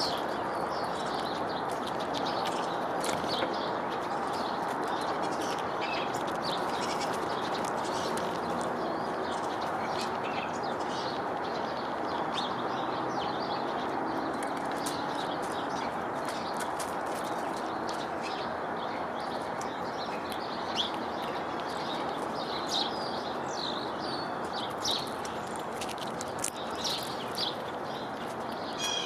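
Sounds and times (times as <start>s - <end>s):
small birds chirping: 0.0s - 29.0s
steady background noise: 0.0s - 29.0s.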